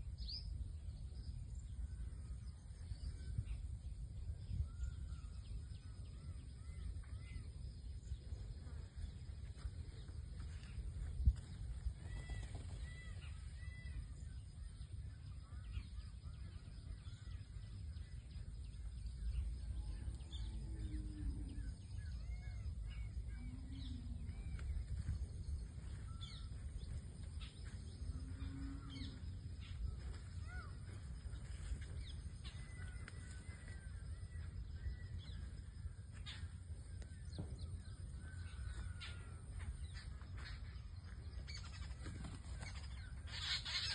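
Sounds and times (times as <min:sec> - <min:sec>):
birds chirping: 0:00.0 - 0:43.9
wind rumble on microphone: 0:00.0 - 0:43.9.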